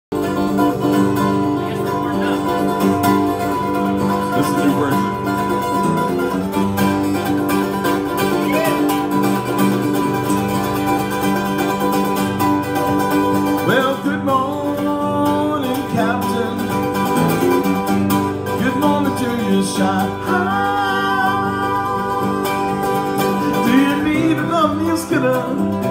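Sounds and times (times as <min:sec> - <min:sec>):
acoustic guitar strumming: 0:00.1 - 0:25.9
plucked string instrument: 0:00.1 - 0:25.9.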